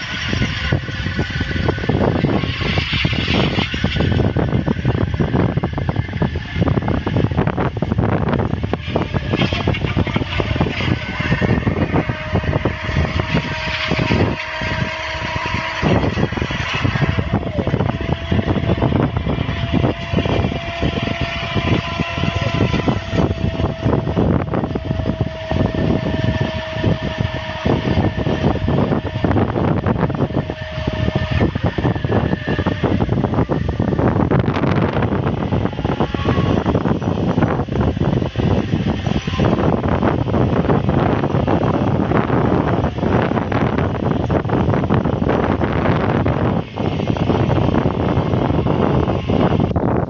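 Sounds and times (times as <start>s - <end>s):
steady machine whine: 0.0s - 50.0s
tractor engine running: 0.0s - 50.0s.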